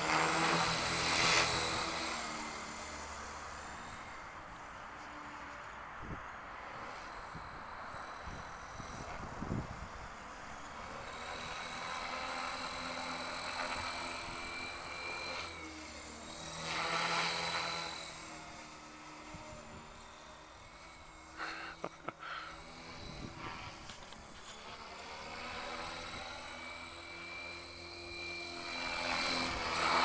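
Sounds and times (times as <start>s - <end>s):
rotor blades whooshing: 0.0s - 5.2s, 6.2s - 30.0s
rc helicopter motor whine: 0.0s - 30.0s.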